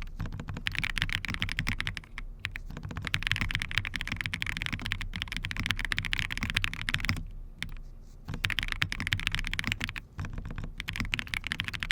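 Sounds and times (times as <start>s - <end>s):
mechanical keyboard clacks: 0.0s - 11.9s.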